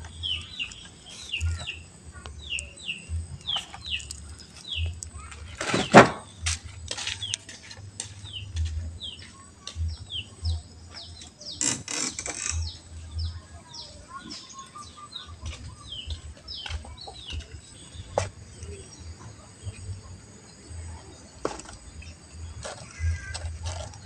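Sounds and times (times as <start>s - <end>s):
high insect drone: 0.0s - 14.2s, 14.9s - 24.0s
bird chirping: 0.0s - 24.0s.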